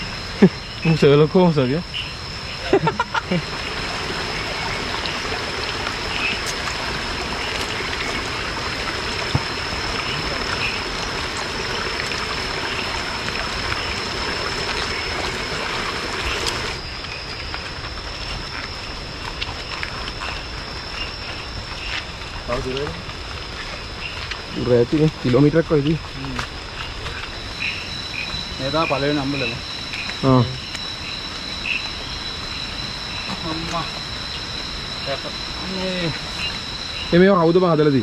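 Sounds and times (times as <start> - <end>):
insect high-pitched whine: 0.0 - 38.0
running water rushing: 2.5 - 38.0.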